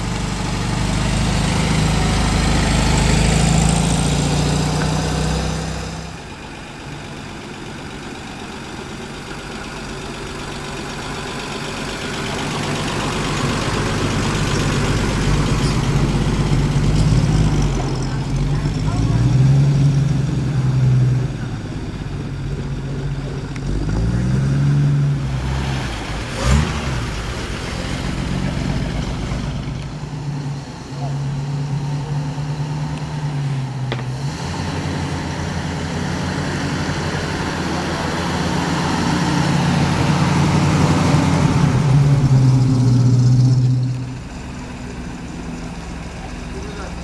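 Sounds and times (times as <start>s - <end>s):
car engines driving slowly past: 0.0s - 47.0s.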